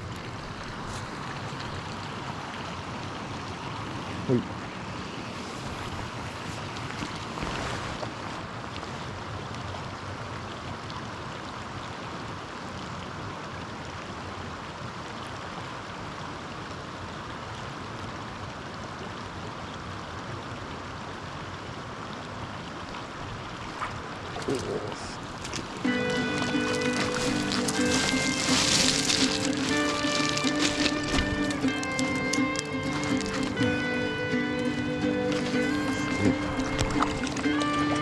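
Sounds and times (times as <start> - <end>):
stream water rushing: 0.0 - 38.0.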